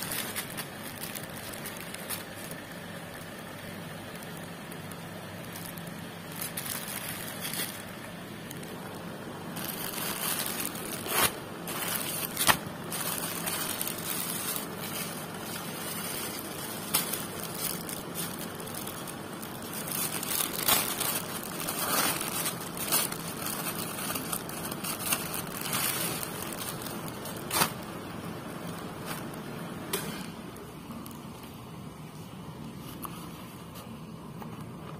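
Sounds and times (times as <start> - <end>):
plastic packaging crinkling: 0.0 - 31.6.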